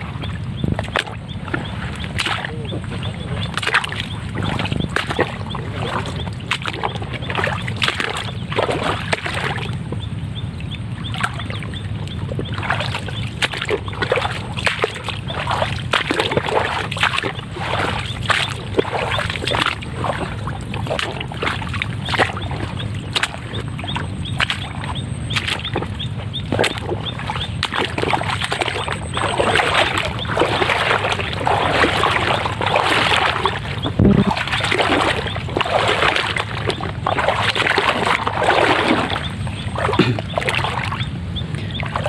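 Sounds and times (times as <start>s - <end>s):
steady low hum: 0.0s - 42.0s
water splashing and sloshing: 0.0s - 42.0s.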